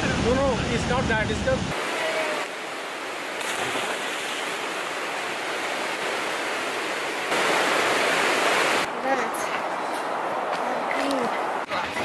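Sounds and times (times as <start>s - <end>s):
stream and waterfall rushing: 1.7s - 12.0s.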